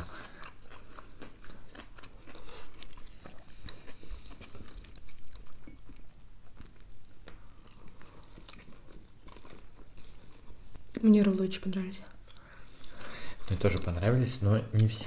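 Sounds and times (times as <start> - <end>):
person chewing food: 0.0 - 11.0, 12.0 - 14.3.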